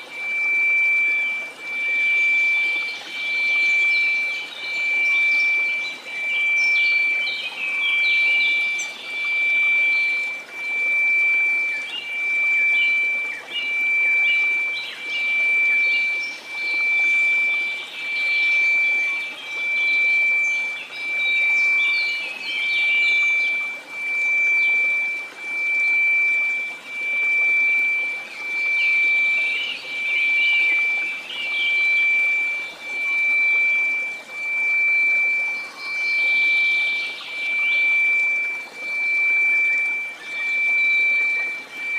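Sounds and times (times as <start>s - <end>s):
pulsing sine tone: 0.0s - 41.9s
birds chirping: 0.2s - 41.9s.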